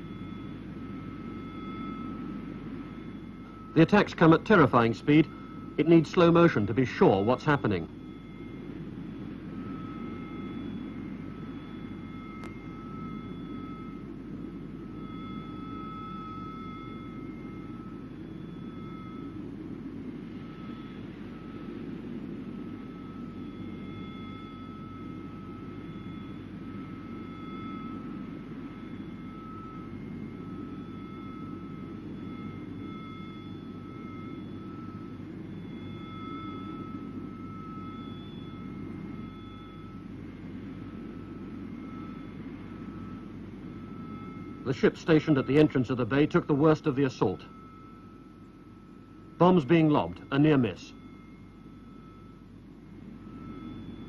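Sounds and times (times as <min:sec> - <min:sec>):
faint high whining tones: 0:00.0 - 0:54.0
low rumble and hiss: 0:00.0 - 0:54.0.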